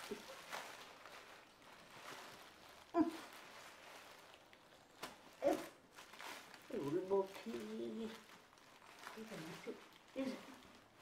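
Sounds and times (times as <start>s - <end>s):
plastic bag rustling and crinkling: 0.0s - 11.0s.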